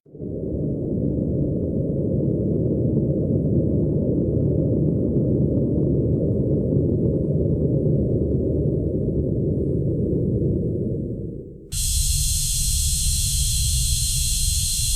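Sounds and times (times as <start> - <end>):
deep steady rumble: 0.3 - 14.9.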